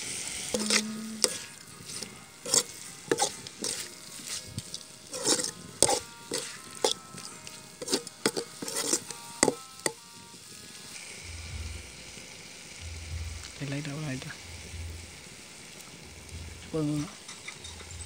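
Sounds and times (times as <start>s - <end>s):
frying sizzle: 0.0s - 18.0s.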